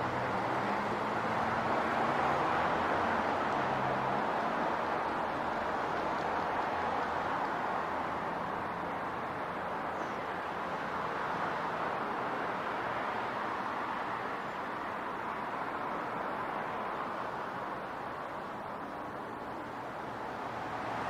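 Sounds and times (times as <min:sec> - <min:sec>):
city traffic rush: 0:00.0 - 0:21.0.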